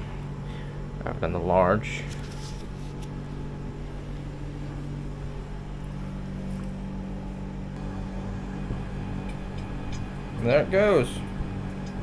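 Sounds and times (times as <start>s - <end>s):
vending machine humming: 0.0s - 12.0s.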